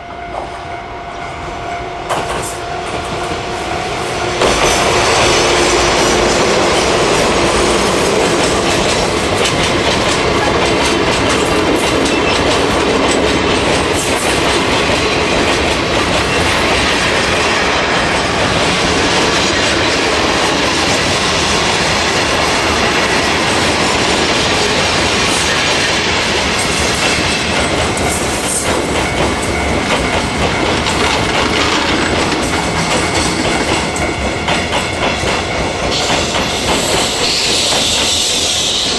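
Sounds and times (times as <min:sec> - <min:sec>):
freight train rumbling: 0:00.0 - 0:38.9
wheels clacking over rail joints: 0:04.4 - 0:38.3.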